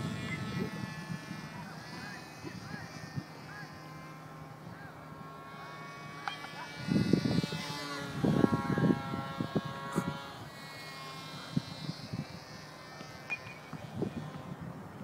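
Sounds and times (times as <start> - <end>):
rc plane motor whine: 0.0 - 15.0.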